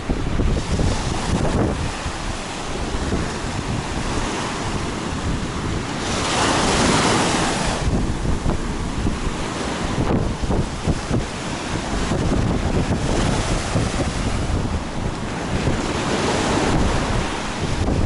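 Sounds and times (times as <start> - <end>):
waves breaking on beach: 0.0 - 18.0
wind buffeting microphone: 0.0 - 18.0.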